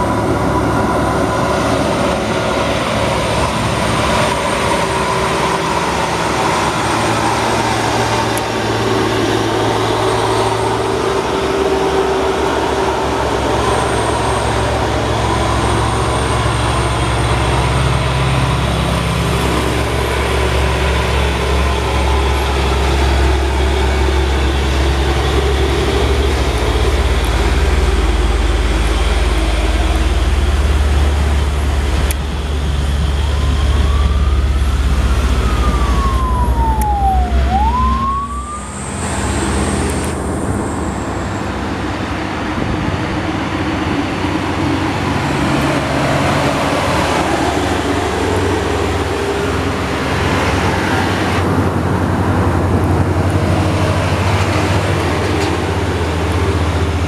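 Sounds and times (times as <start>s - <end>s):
diesel trucks climbing under load: 0.0s - 57.0s.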